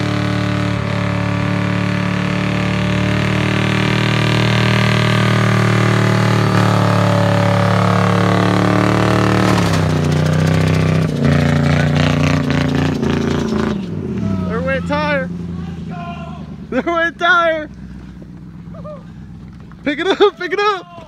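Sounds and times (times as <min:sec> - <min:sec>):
car engine revving high: 0:00.0 - 0:17.6.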